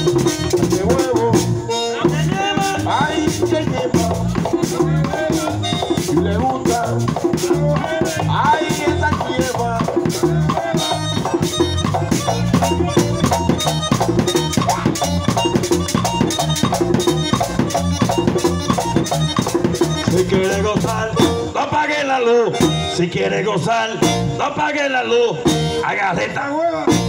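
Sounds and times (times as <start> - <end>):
latin dance band playing: 0.0 - 27.0.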